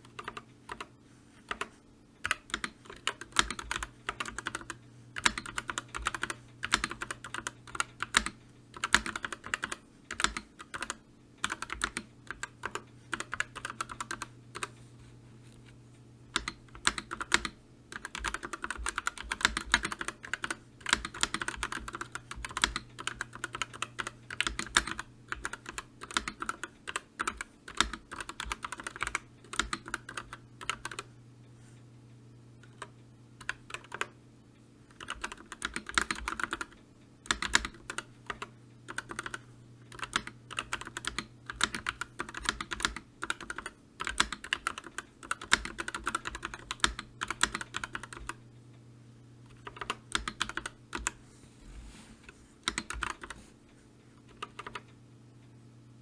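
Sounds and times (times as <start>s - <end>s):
typing on computer keyboard: 0.0s - 0.9s, 1.5s - 14.8s, 16.3s - 31.1s, 32.6s - 34.2s, 34.9s - 48.4s, 49.5s - 51.2s, 52.6s - 53.4s, 54.2s - 55.0s.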